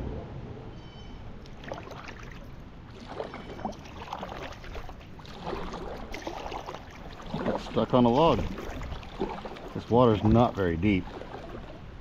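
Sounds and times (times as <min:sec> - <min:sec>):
kayak knocking and scraping: 0:01.4 - 0:12.0
paddle splashing water: 0:01.4 - 0:12.0.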